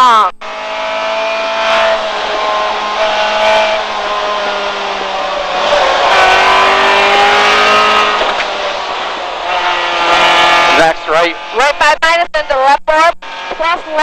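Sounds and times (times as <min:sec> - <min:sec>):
car engine under full throttle: 0:00.0 - 0:14.0.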